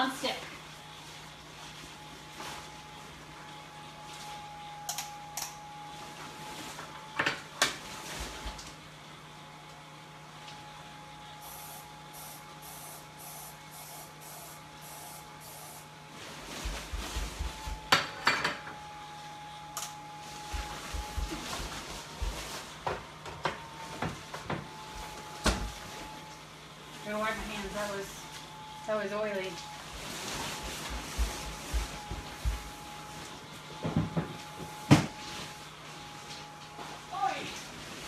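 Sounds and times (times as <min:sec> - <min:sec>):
blower fan hum: 0:00.0 - 0:38.0.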